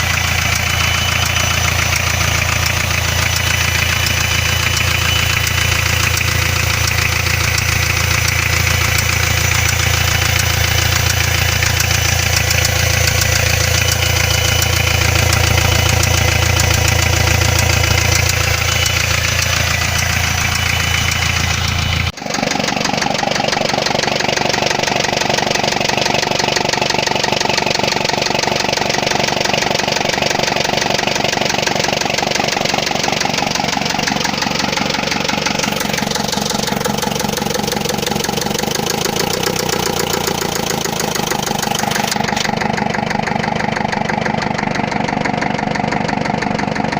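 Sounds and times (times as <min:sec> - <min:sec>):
diesel engine idling with knock: 0:00.0 - 0:46.9.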